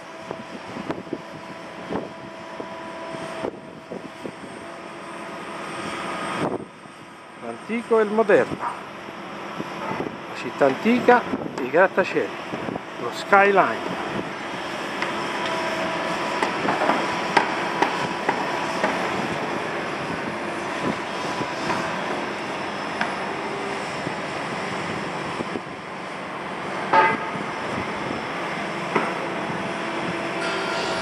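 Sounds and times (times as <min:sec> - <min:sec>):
distant traffic hum: 0:00.0 - 0:31.0.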